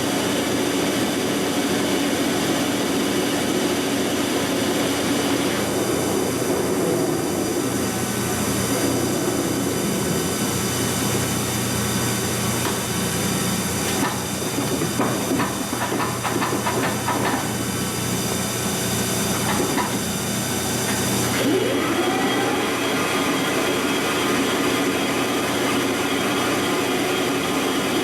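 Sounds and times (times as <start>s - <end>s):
lathe whining: 4.0s - 28.0s.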